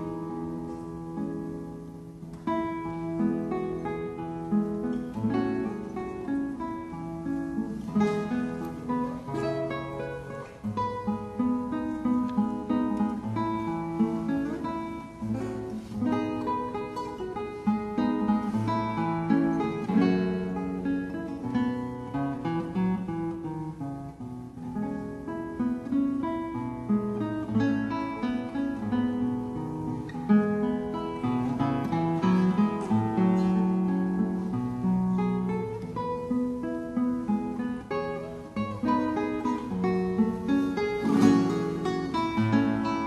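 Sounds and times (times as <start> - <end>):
acoustic guitar music: 0.0 - 43.0.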